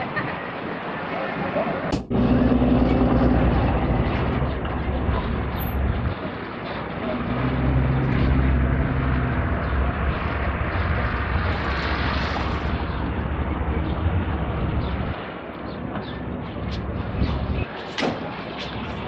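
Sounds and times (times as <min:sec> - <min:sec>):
road and street noise: 0:00.0 - 0:19.0
vehicle engine humming: 0:01.9 - 0:17.7.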